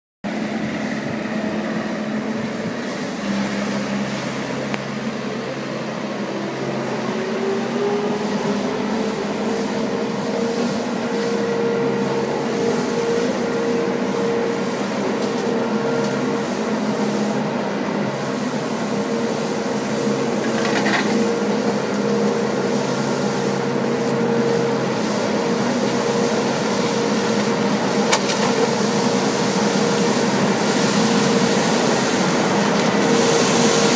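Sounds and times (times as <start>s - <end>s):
street sweeper drone and whine: 0.2s - 33.9s.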